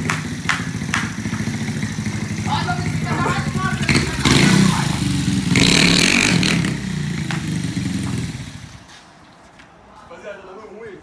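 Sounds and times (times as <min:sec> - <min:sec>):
moped engine running: 0:00.0 - 0:08.8.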